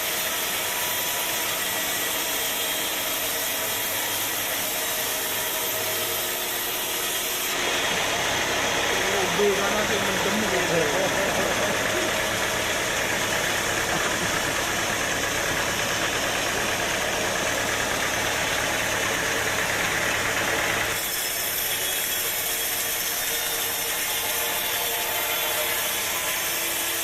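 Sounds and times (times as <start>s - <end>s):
sawmill engine running with rattle: 0.0s - 27.0s.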